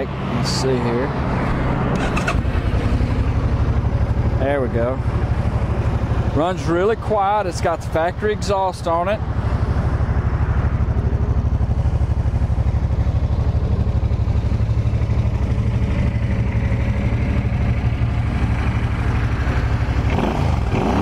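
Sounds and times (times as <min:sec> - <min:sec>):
motorcycle engine idling: 0:02.0 - 0:21.0.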